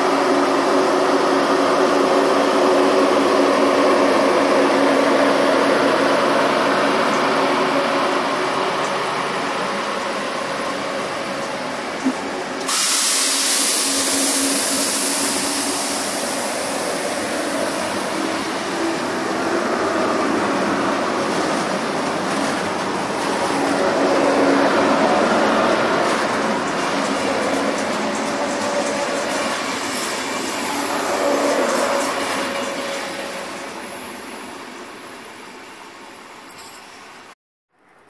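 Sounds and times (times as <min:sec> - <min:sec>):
train passing at speed: 0:00.0 - 0:37.4.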